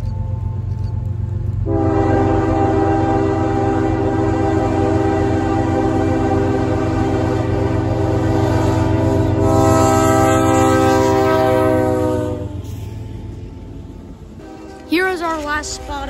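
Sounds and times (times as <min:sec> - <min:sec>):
diesel engines running: 0:00.0 - 0:16.0
train horn chord: 0:01.6 - 0:13.0, 0:14.3 - 0:16.0.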